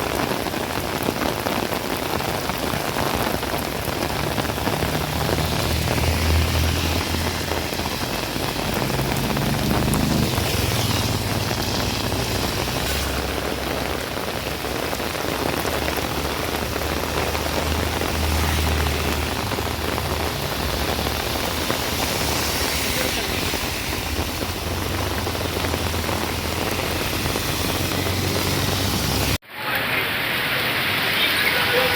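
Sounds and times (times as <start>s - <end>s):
rain falling steadily: 0.0s - 31.9s.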